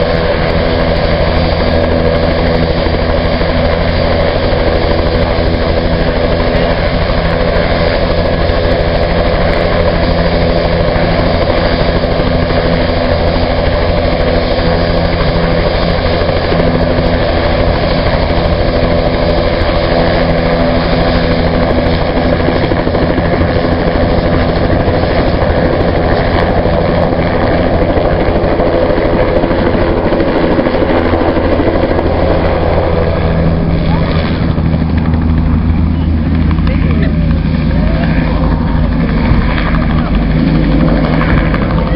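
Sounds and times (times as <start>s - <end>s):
helicopter turbine and rotor: 0.0s - 41.9s.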